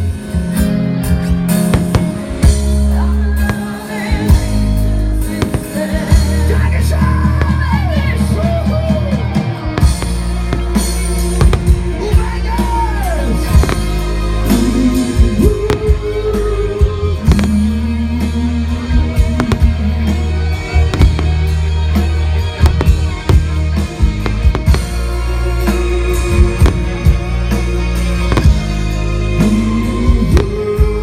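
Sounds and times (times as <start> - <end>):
loud rock music with singing: 0.0 - 31.0
fireworks bangs: 1.6 - 31.0.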